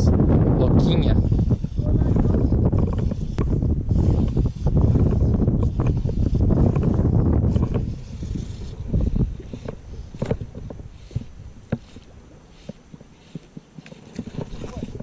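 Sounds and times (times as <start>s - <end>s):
wind buffeting microphone: 0.0s - 15.0s
fishing rod clicks and rustles: 2.2s - 15.0s.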